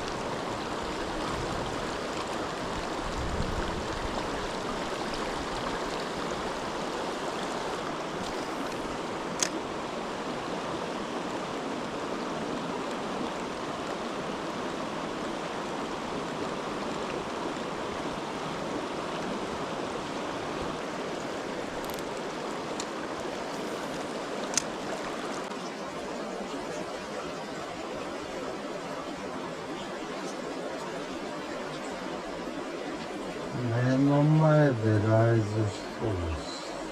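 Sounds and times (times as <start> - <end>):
stream rushing over rocks: 0.0 - 36.9.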